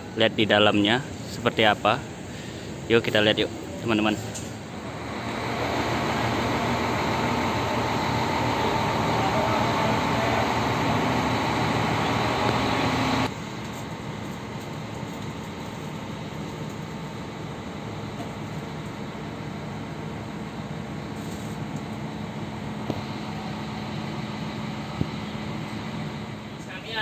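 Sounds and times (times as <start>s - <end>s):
bus diesel engine idling: 0.0s - 27.0s.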